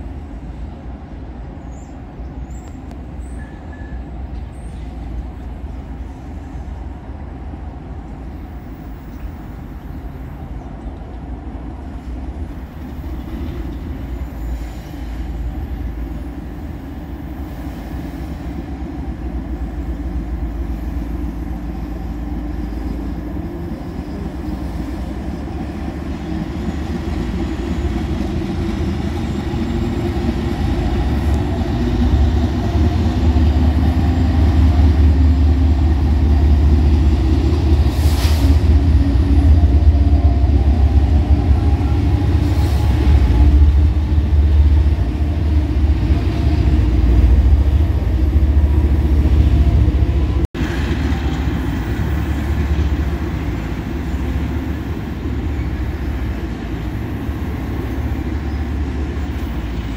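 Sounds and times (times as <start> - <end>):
diesel train rumbling past: 0.0 - 59.9.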